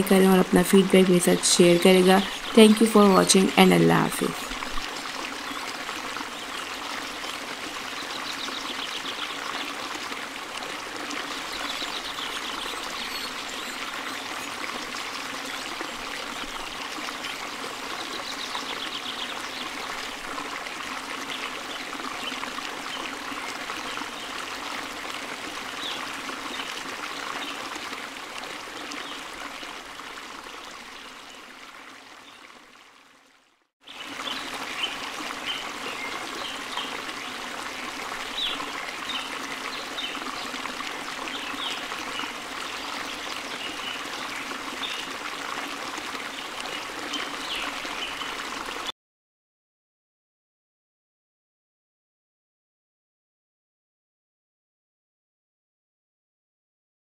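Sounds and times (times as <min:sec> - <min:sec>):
trickling stream: 0:00.0 - 0:48.9.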